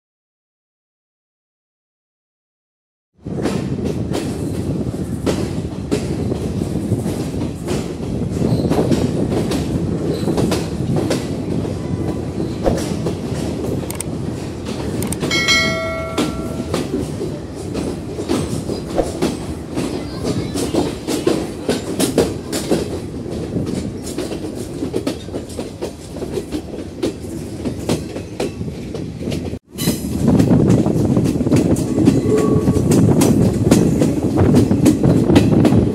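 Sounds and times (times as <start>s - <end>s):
train rumbling on track: 3.2s - 35.9s
wheels clicking over rail joints: 3.4s - 35.9s.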